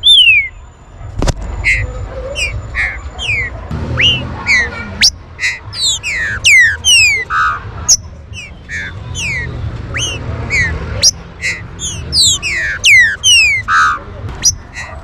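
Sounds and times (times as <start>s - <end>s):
birds calling with whistled notes: 0.0s - 0.7s, 1.5s - 15.0s.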